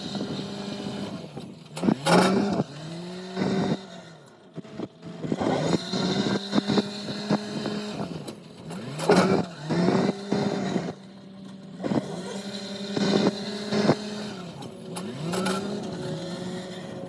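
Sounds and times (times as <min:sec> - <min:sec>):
loader engine revving: 0:00.0 - 0:17.0.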